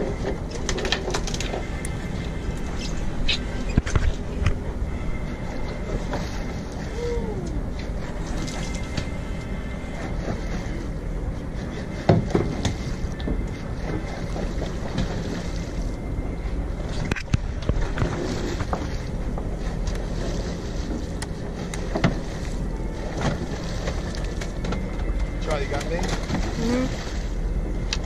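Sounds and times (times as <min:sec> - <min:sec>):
boat engine rumble: 0:00.0 - 0:28.0.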